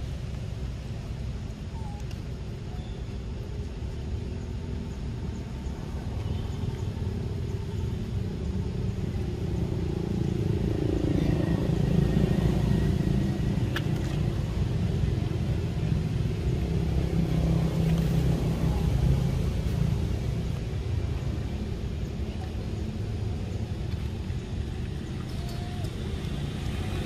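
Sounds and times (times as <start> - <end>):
low engine rumble: 0.0 - 27.0.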